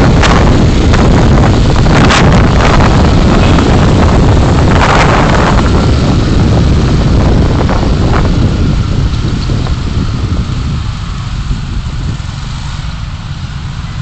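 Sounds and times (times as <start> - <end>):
car road and wind rumble: 0.0 - 14.0.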